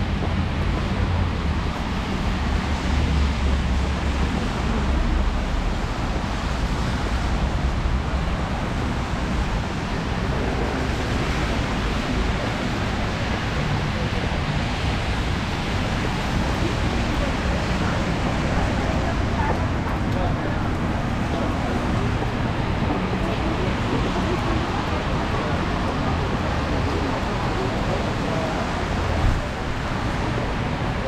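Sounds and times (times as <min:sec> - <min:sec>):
low engine rumble: 0:00.0 - 0:31.0
tyres hissing on wet road: 0:00.4 - 0:31.0.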